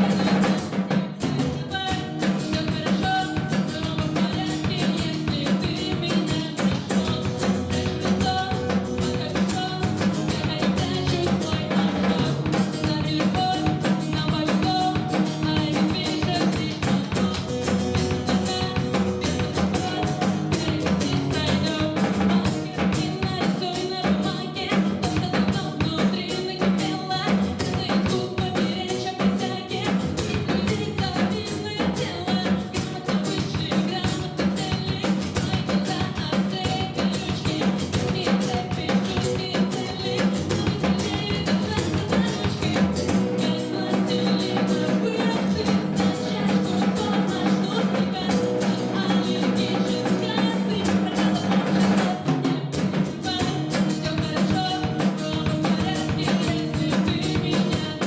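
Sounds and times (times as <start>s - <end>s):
drum kit: 0.0s - 58.0s
guitar: 0.0s - 58.0s
woman singing: 0.0s - 58.0s.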